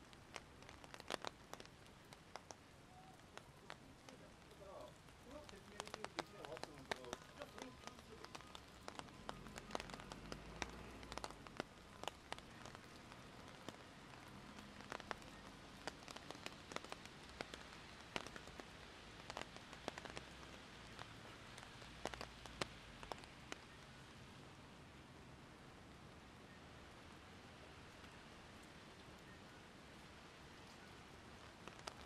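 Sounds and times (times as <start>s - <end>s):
raindrop impacts: 0.0s - 32.0s
steady rain hiss: 0.0s - 32.0s.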